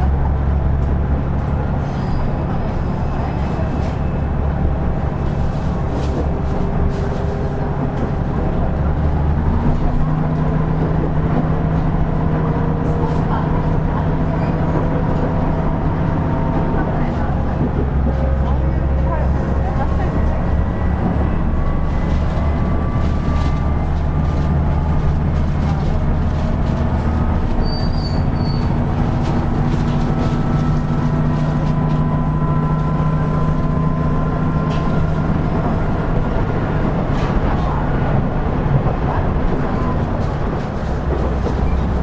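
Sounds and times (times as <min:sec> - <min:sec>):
diesel engine drone: 0:00.0 - 0:42.0
train wheels rumbling on rail: 0:00.0 - 0:42.0.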